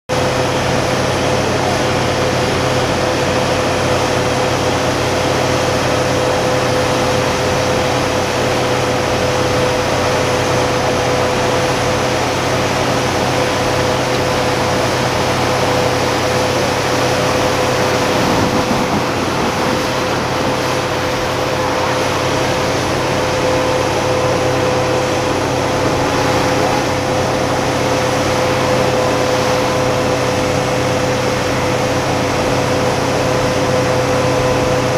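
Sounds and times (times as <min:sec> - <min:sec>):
drilling rig mechanical drone: 0:00.1 - 0:34.9.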